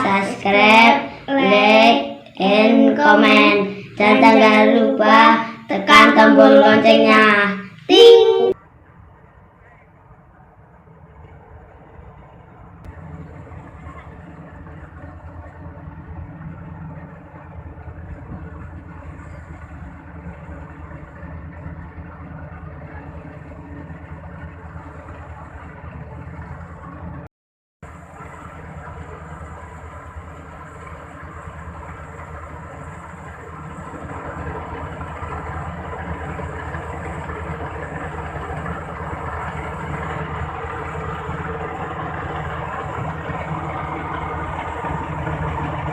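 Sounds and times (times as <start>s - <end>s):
combine harvester droning: 0.0s - 8.6s, 10.8s - 45.9s.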